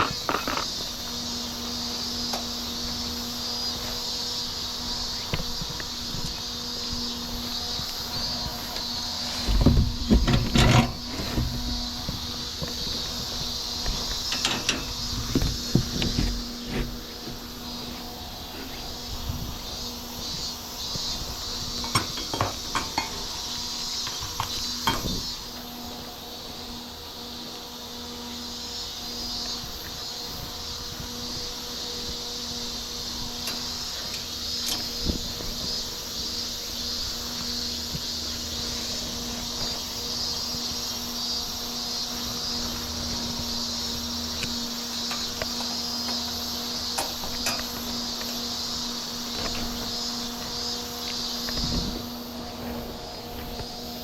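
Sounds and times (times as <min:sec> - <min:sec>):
insects chirring: 0:00.0 - 0:54.0
small fans humming: 0:00.0 - 0:54.0.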